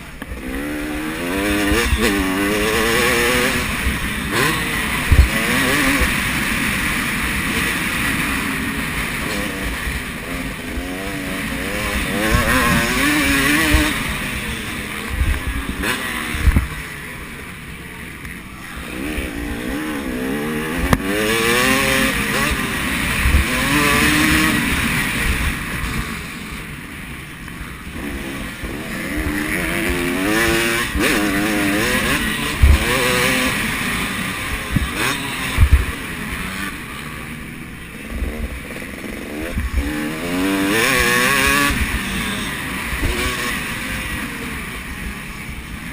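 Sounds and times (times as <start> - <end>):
motocross bikes revving past: 0.0 - 45.9.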